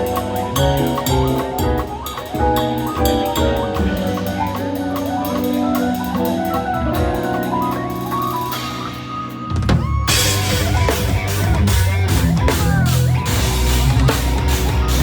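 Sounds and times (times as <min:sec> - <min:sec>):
drum-kit groove: 0:00.0 - 0:15.0
mallet keyboards playing chords: 0:00.0 - 0:15.0.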